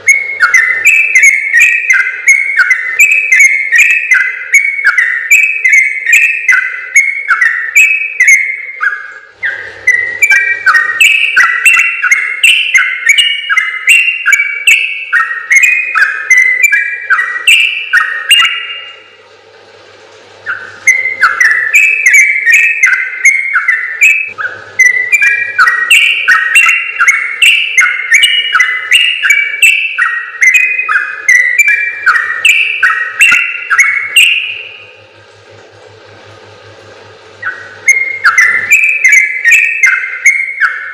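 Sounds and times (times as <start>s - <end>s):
bulbul singing bubbly chirps: 0.0s - 19.2s, 20.4s - 34.9s, 37.3s - 40.9s.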